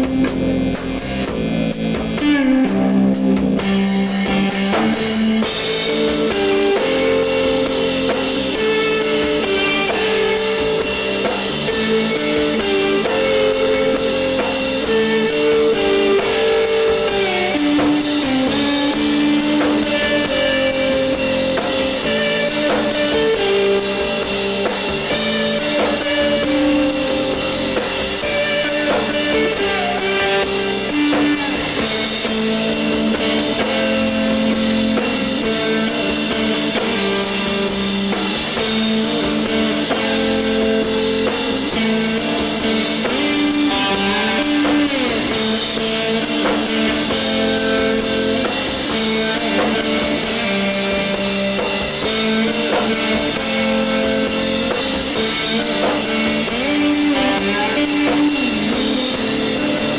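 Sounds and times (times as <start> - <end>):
distorted electric guitar: 0.0 - 59.9
drum kit with cymbals: 0.0 - 59.9.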